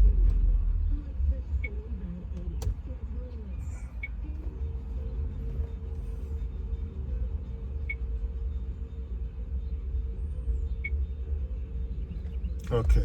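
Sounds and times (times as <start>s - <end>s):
car idling: 0.0s - 13.0s
constant hum: 0.0s - 13.0s.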